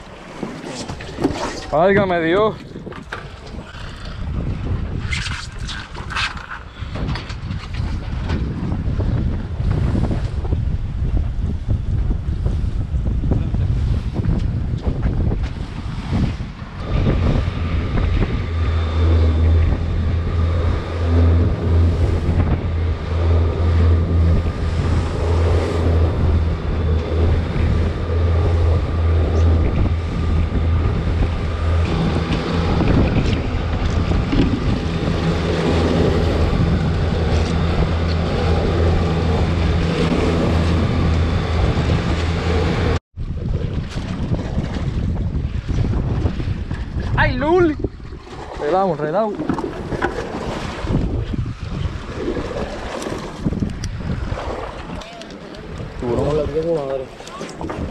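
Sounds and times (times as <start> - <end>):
water noise: 0.0 - 57.9
wind buffeting microphone: 0.9 - 57.9
boat engine humming: 8.0 - 43.4, 45.2 - 57.9.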